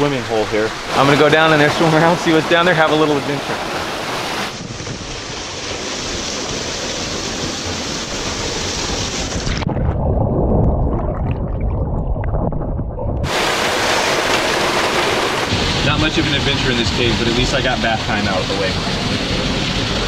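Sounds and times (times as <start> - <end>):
muffled underwater rumbling: 0.0 - 20.0
water splashing and rushing: 0.0 - 20.0.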